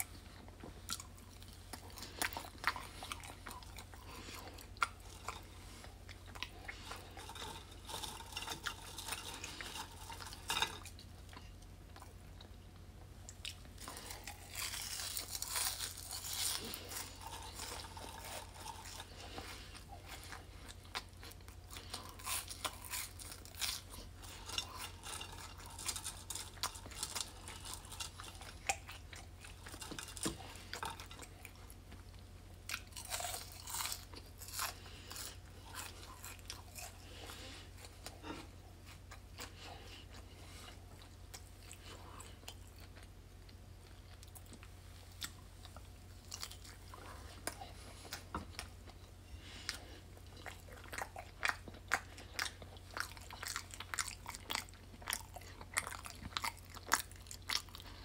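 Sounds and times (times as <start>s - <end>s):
chewing and crunching fried food: 0.0s - 58.0s.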